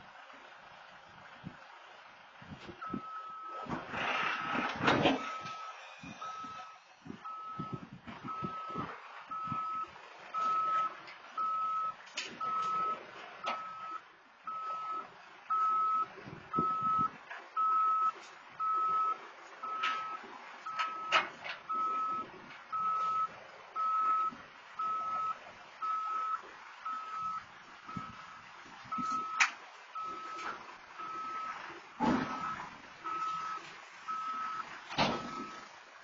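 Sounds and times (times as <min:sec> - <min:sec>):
low engine rumble: 0:00.0 - 0:36.0
reverse alarm beeping: 0:05.2 - 0:29.4, 0:30.0 - 0:31.5, 0:32.2 - 0:35.6.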